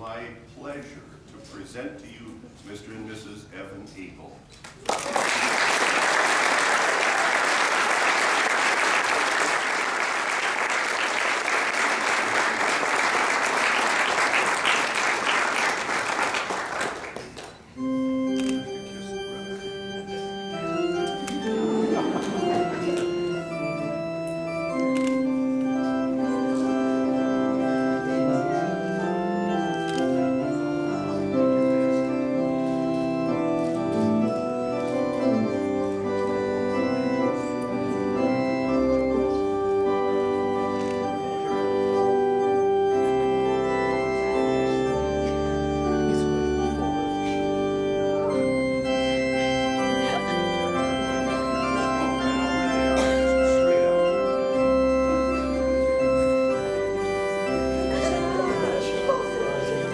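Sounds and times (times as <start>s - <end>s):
organ playing held chords: 5.8s - 59.9s.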